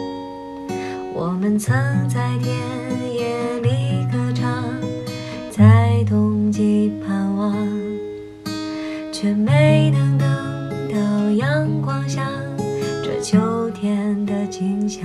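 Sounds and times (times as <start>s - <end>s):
acoustic guitar strumming: 0.0s - 15.0s
woman singing a folk ballad: 0.6s - 15.0s.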